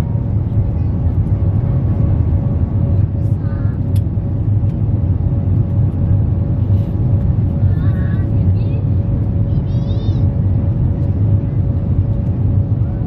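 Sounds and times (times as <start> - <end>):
airliner engine and airflow rumble: 0.0 - 13.0
faint constant hum: 0.0 - 13.0.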